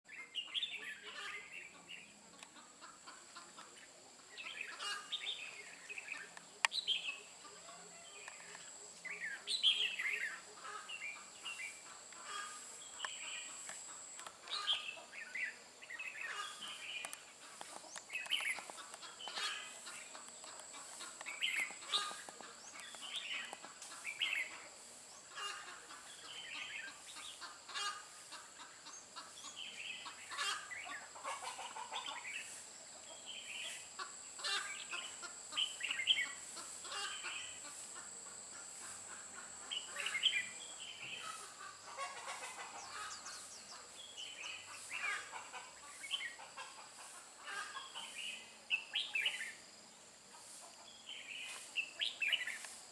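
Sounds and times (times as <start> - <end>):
bulbuls chirping song: 0.1 - 52.9.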